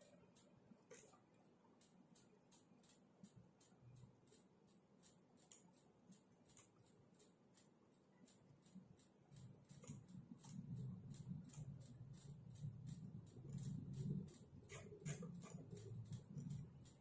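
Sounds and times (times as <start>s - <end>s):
faint keyboard typing: 0.0s - 17.0s.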